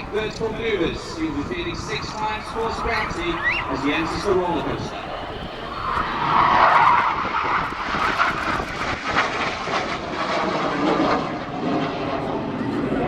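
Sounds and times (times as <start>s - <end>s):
jet passing overhead: 0.0s - 13.0s
wind buffeting microphone: 0.0s - 13.0s.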